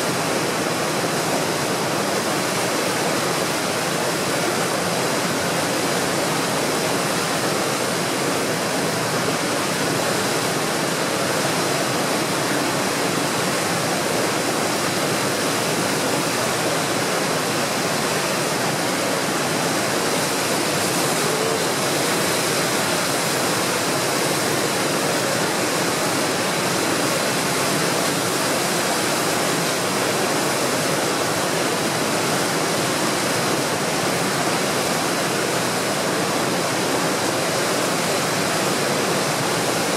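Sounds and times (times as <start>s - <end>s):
roar of rushing white water: 0.0s - 39.9s.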